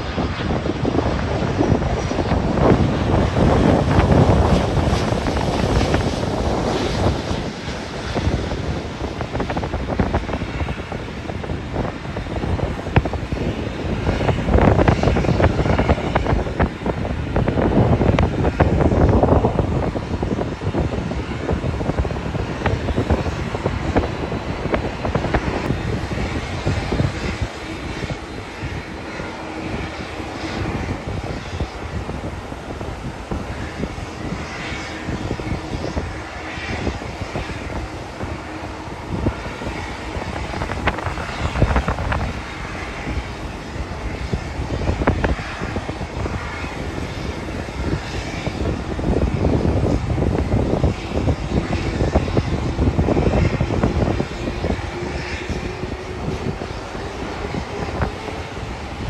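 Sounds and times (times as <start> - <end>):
jet engines running: 0.0 - 59.0
wind buffeting microphone: 0.0 - 59.0.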